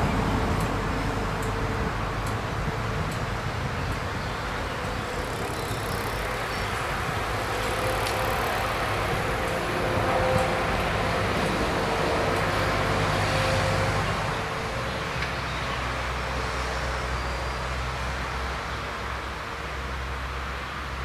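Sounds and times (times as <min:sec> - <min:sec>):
road traffic: 0:00.0 - 0:21.0
truck passing: 0:00.0 - 0:21.0.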